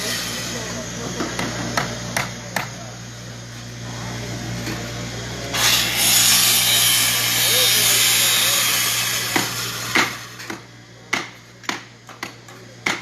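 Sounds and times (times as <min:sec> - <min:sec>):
power tool running: 0:00.0 - 0:10.6
steady low hum: 0:00.0 - 0:13.0.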